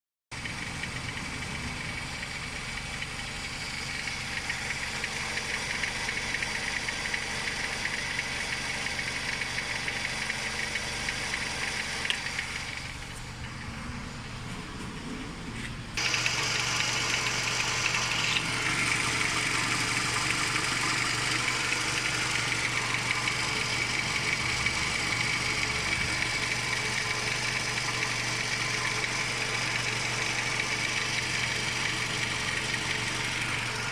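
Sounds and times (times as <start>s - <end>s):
car engine idling: 0.3s - 33.9s.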